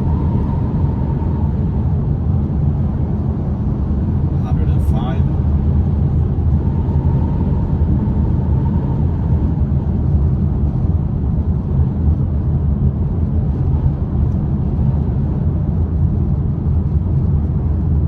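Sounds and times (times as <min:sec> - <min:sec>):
wind and road rush in car cabin: 0:00.0 - 0:18.0.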